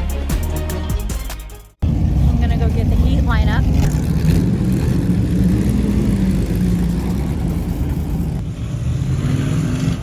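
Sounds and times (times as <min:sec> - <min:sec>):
race car engines droning: 0:01.8 - 0:10.0.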